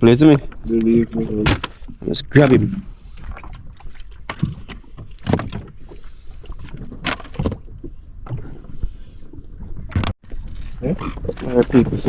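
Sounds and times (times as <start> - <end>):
knocks and splashes: 0.0 - 12.0
water sloshing around boat: 0.0 - 12.0.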